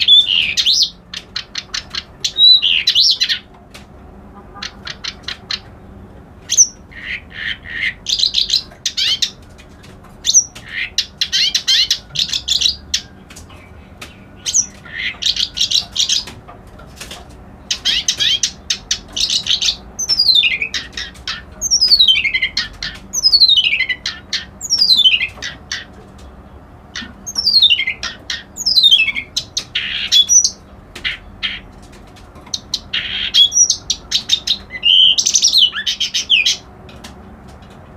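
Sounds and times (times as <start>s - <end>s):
reed warbler singing: 0.0s - 3.6s, 4.6s - 9.5s, 10.2s - 16.5s, 17.6s - 31.8s, 32.4s - 36.7s.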